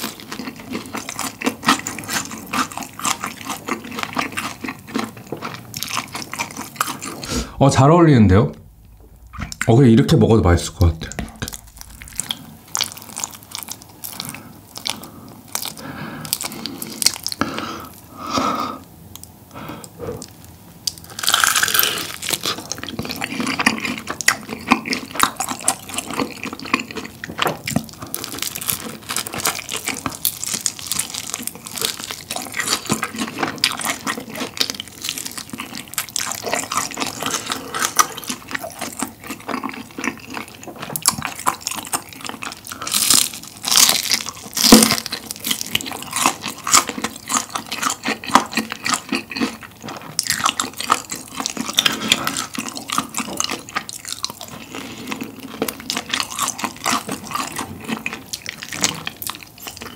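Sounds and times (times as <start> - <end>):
fried chicken crunching: 0.0 - 7.6, 10.8 - 18.0, 20.1 - 59.9.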